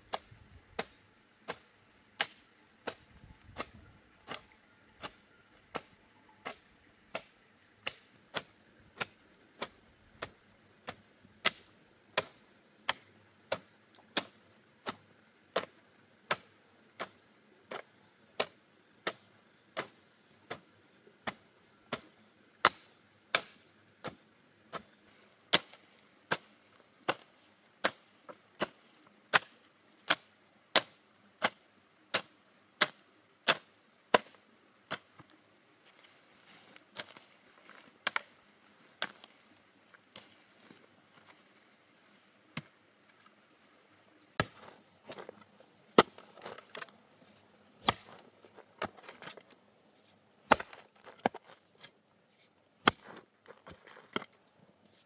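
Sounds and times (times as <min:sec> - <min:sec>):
hoe chopping soil: 0:00.0 - 0:43.4, 0:44.1 - 0:49.6, 0:50.3 - 0:55.0.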